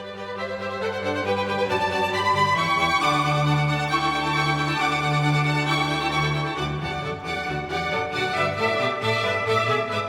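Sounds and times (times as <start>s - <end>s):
violin music: 0.0s - 10.0s.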